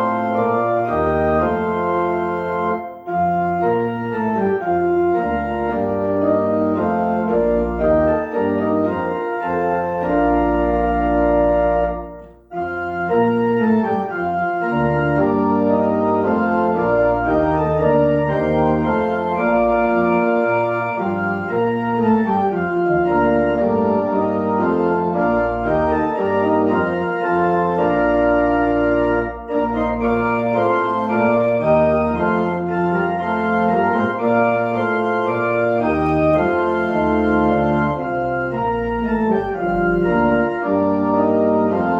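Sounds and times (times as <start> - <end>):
organ playing chords: 0.0 - 41.9.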